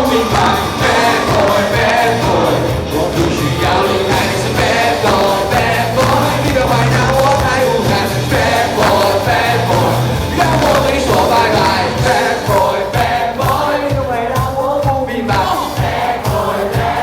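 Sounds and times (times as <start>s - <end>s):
pop-rock band with singer: 0.0s - 17.0s.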